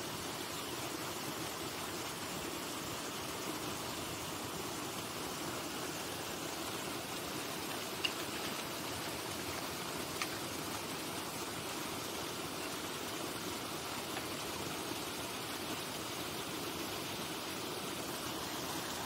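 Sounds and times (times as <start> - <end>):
irrigation water rushing: 0.0 - 19.0.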